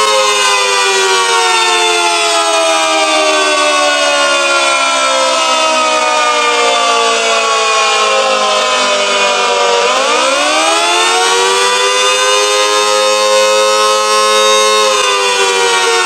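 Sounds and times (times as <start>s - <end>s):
outdoor warning siren echoing: 0.0s - 16.0s.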